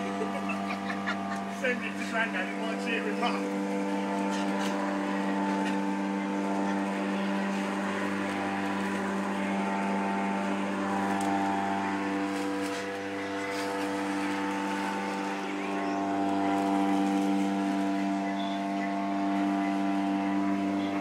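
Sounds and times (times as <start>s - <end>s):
electric lawnmower motor whine: 0.0s - 21.0s.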